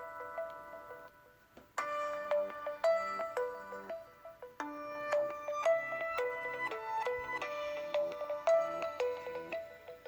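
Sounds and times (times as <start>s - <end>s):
mallet-like ringtone melody: 1.8s - 10.0s.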